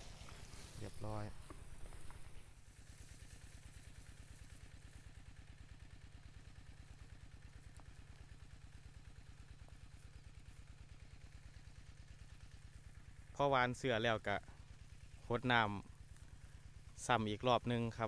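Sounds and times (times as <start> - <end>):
small engine idling: 0.0 - 18.0.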